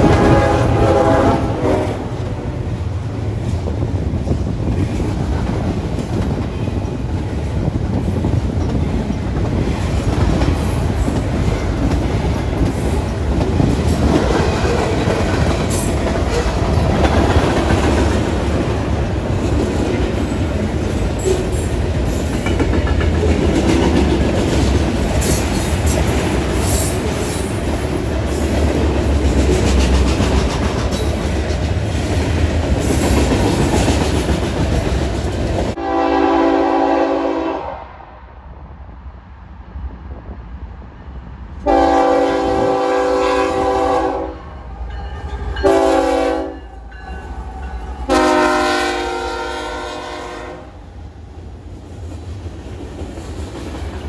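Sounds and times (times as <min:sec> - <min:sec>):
freight train wheels rumbling: 0:00.0 - 0:37.6, 0:38.5 - 0:54.0.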